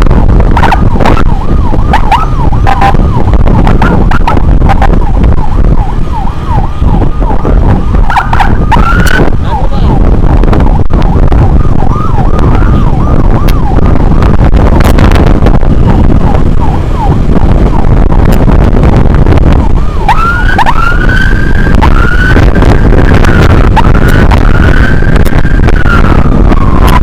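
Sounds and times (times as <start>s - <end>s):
emergency vehicle siren: 0.0s - 27.0s
motorcycle road rumble: 0.0s - 27.0s
wind noise: 0.0s - 27.0s.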